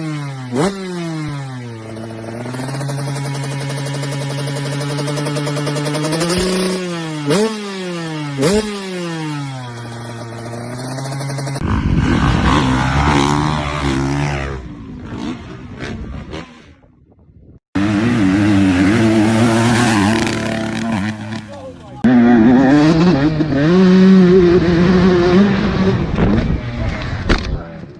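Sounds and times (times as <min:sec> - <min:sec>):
motorcycle engines revving: 0:00.0 - 0:17.0, 0:17.8 - 0:27.9.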